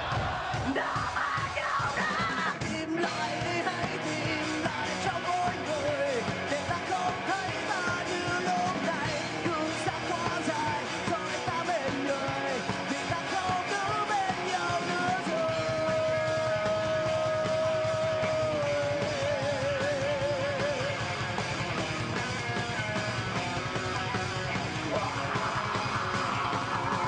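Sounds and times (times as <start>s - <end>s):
person singing: 0.0s - 21.2s, 24.7s - 27.0s
drums: 0.0s - 27.0s
electric guitar: 1.1s - 27.0s.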